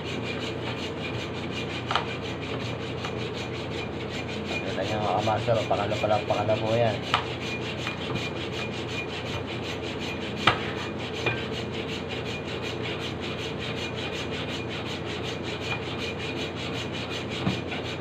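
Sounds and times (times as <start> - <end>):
hand saw cutting through meat: 0.0 - 18.0.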